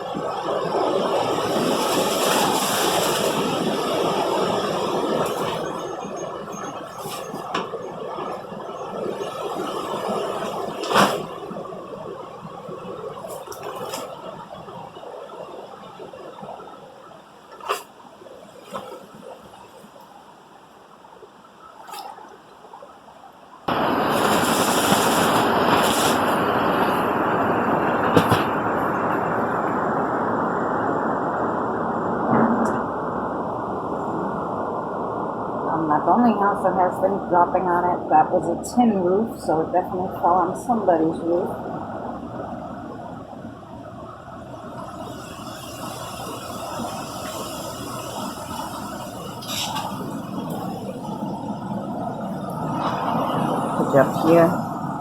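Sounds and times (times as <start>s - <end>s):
storm wind gusting through trees: 0.0s - 17.4s, 23.7s - 55.0s.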